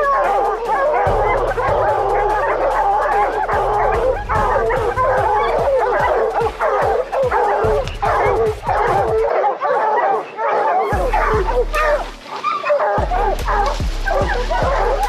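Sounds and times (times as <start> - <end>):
hounds barking and bawling: 0.0 - 15.0.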